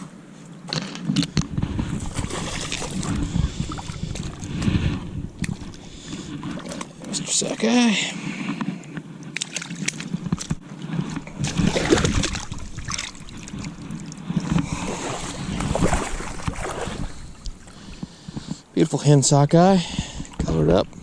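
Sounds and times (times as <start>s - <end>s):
water sloshing and splashing: 0.0s - 18.8s.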